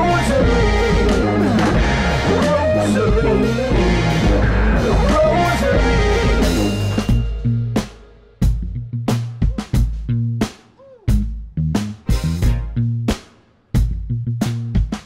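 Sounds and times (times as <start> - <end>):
instrumental rock band playing: 0.0 - 15.0.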